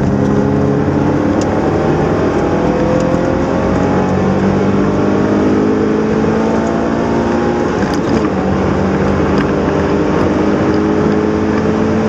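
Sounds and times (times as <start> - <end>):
car engine from inside: 0.0 - 12.0
road noise: 0.0 - 12.0.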